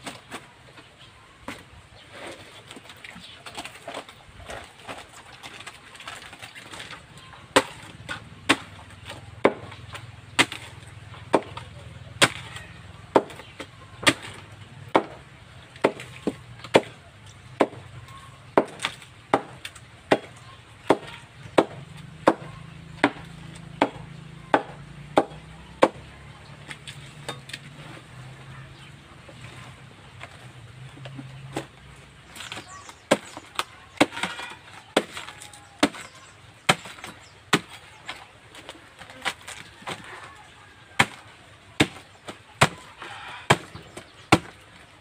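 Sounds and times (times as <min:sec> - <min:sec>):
blade chopping banana trunk: 0:02.7 - 0:44.9.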